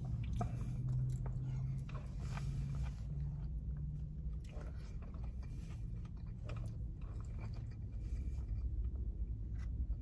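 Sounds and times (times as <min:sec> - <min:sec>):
low steady hum: 0:00.0 - 0:10.0
man chewing food: 0:00.0 - 0:10.0.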